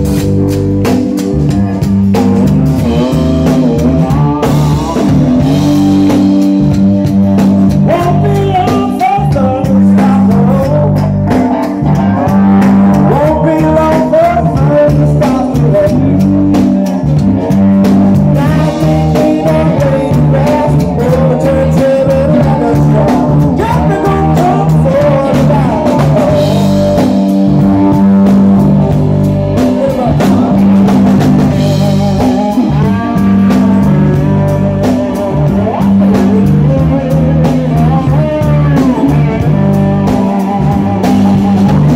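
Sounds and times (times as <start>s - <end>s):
bending lead melody: 0.0s - 41.9s
live blues band playing: 0.0s - 41.9s.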